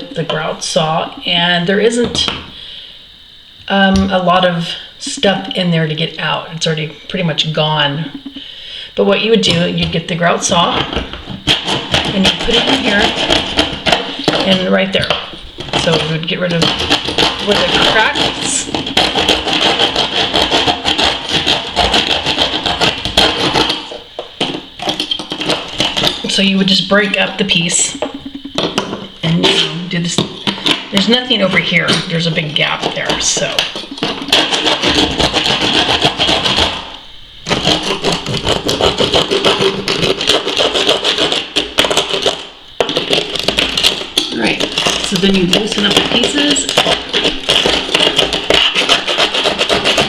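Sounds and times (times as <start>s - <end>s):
grout saw scraping: 9.5s - 50.0s.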